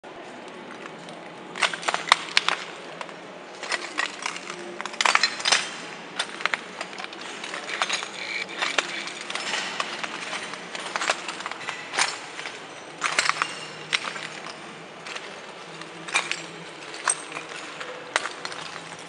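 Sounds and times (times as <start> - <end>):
footsteps crunching on broken glass: 3.7 - 19.0.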